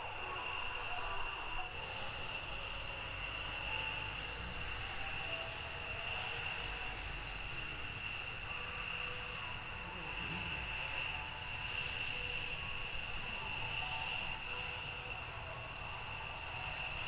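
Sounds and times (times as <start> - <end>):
jet engines whining at taxi: 0.0 - 17.0.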